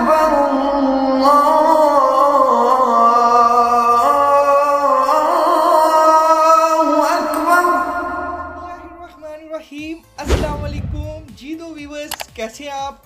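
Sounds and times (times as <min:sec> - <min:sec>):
sung vocal melody: 0:00.0 - 0:11.8.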